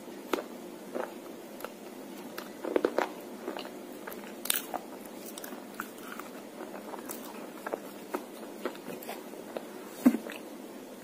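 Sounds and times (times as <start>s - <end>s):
person chewing crunchy pencil: 0.3s - 10.4s.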